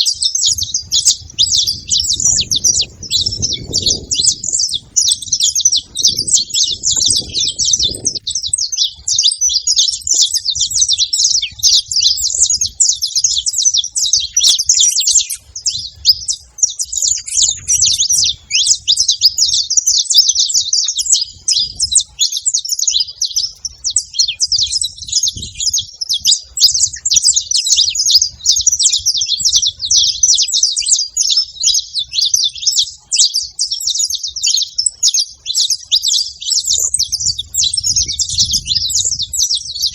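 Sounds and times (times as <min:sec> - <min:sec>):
finches singing and chirping: 0:00.0 - 0:39.9.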